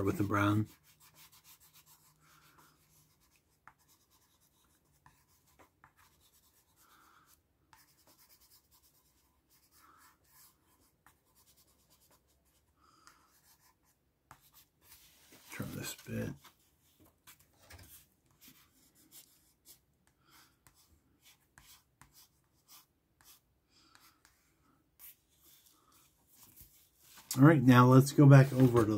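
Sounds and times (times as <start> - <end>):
pencil scratching on paper: 0.0 - 28.9.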